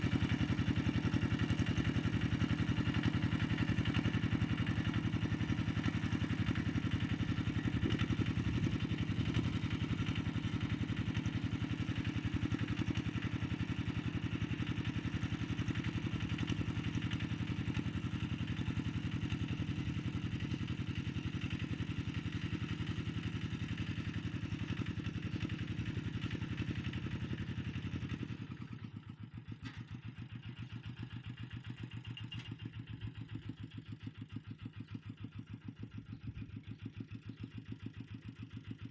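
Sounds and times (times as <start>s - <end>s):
walk-behind tractor engine: 0.0s - 38.9s.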